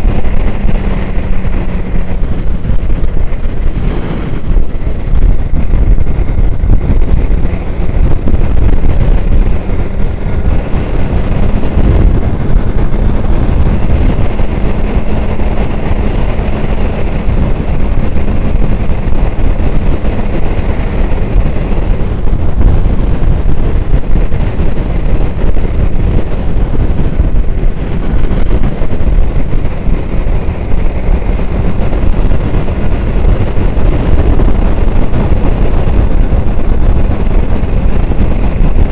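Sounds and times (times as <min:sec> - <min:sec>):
faint motorcycle engine hum: 0:00.0 - 0:38.9
wind buffeting microphone: 0:00.0 - 0:38.9.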